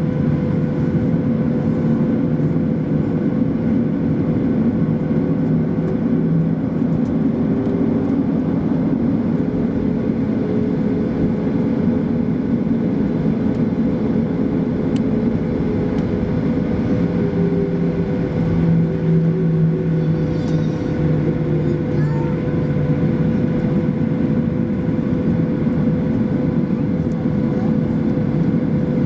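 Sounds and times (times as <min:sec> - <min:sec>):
airplane cabin engine rush: 0:00.0 - 0:29.0.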